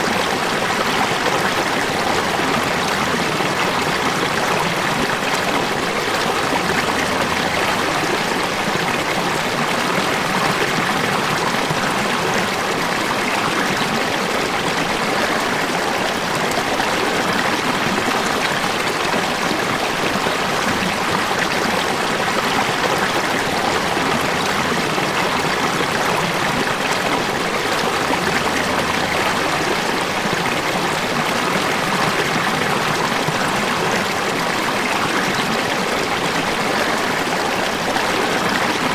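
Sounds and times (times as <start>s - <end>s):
falling water rushing: 0.0s - 38.9s.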